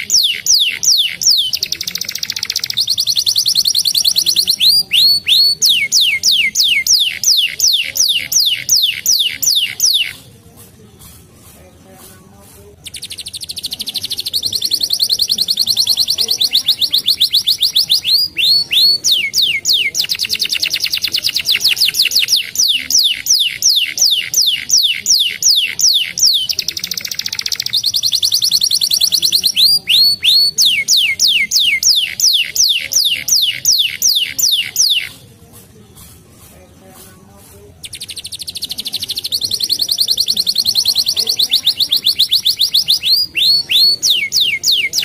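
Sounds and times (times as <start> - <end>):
canary singing: 0.0 - 10.4, 12.8 - 35.4, 36.1 - 45.0.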